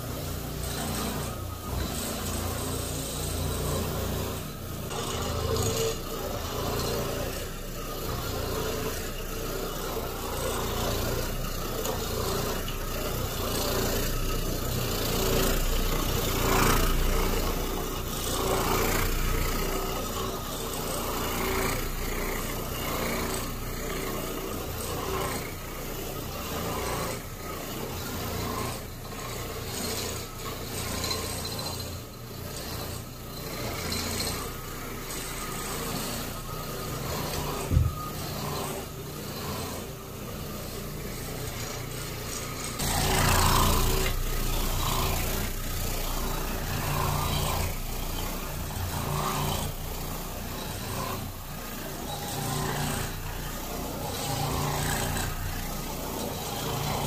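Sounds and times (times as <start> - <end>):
floor machine scrubbing carpet: 0.0 - 57.0.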